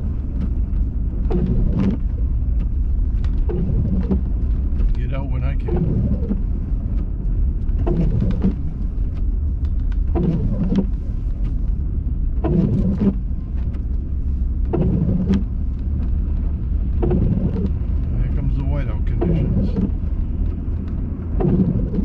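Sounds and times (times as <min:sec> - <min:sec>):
car engine and tyres rumbling: 0:00.0 - 0:22.0
windshield wiper sweeping: 0:00.0 - 0:22.0.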